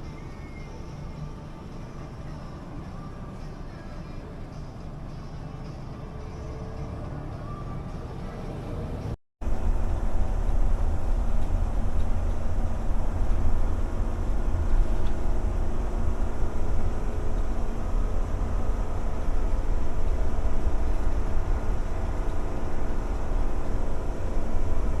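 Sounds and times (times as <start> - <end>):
vehicle driving rumble: 0.0 - 25.0.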